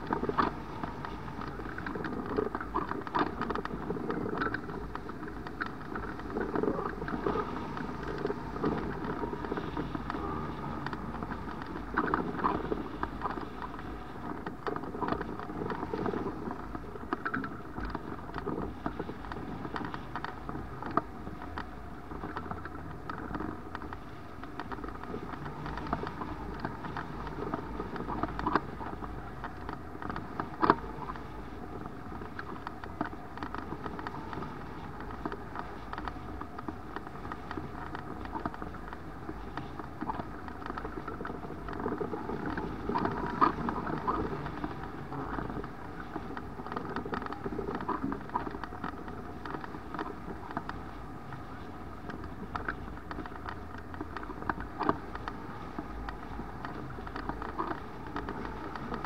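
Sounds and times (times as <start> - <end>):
muffled wind noise: 0.0 - 59.0
sharp clicks and pops: 0.0 - 59.0.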